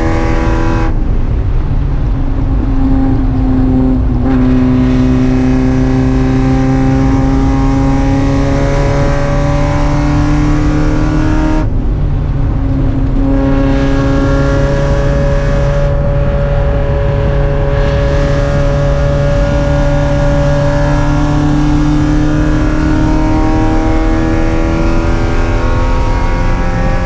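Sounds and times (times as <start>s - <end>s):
car engine revving under throttle: 0.0s - 27.0s.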